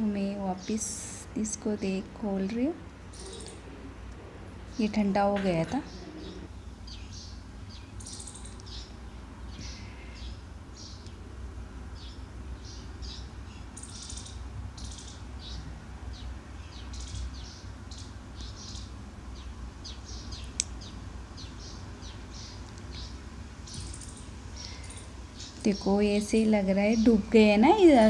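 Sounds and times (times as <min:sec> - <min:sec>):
low steady hum: 0:00.0 - 0:28.0
small birds chirping: 0:00.0 - 0:28.0.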